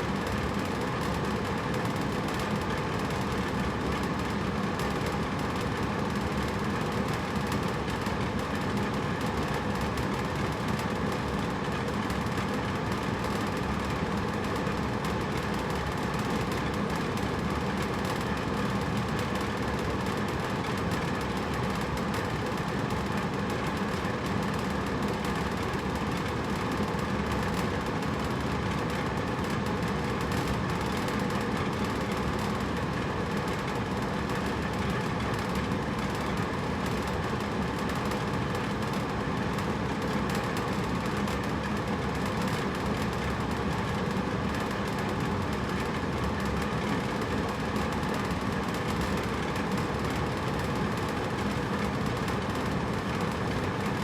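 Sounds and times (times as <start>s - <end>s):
air conditioner rushing air: 0.0s - 54.0s.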